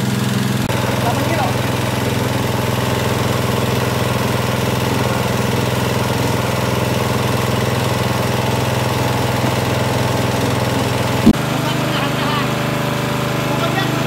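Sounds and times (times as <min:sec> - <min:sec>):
rice mill motor humming: 0:00.0 - 0:14.0.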